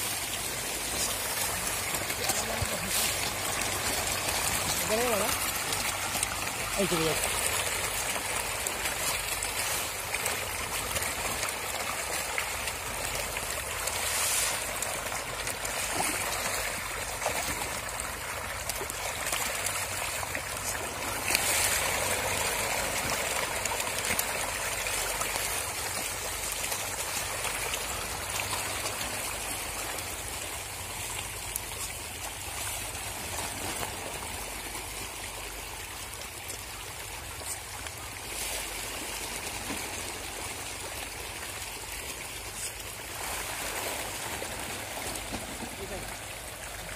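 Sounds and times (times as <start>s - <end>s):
fish splashing at water surface: 0.0s - 46.9s.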